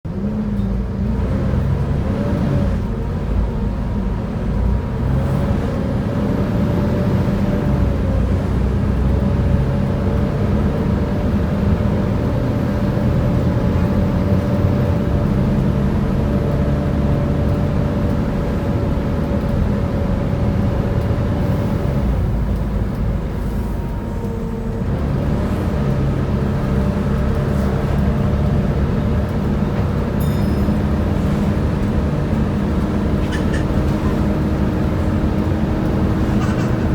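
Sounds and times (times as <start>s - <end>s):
bus diesel engine running: 0.0s - 36.9s.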